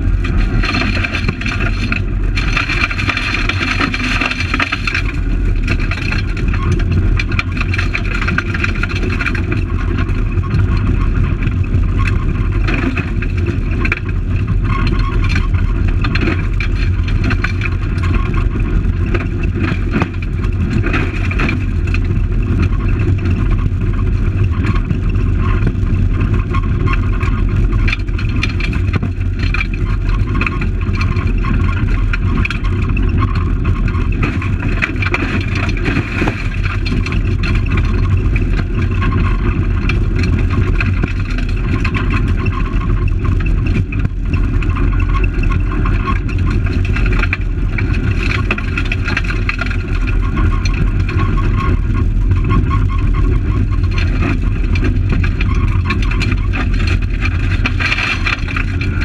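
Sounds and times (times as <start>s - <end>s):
gravel ticking against car: 0.0s - 59.0s.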